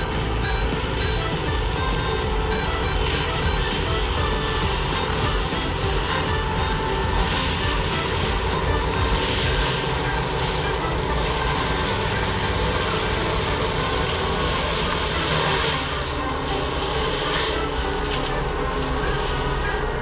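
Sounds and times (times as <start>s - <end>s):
high hydraulic hiss: 0.0s - 19.7s
excavator engine running: 0.0s - 20.0s.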